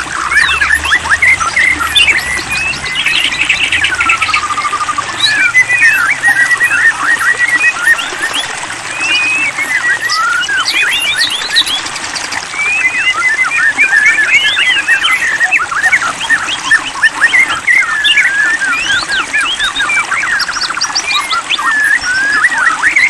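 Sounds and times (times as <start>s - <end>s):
bird singing whistles and chirps: 0.0s - 23.0s.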